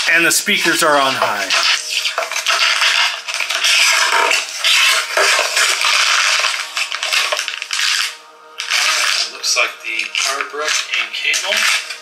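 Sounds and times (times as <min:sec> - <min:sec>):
cardboard and plastic packaging crinkling: 0:00.1 - 0:12.0.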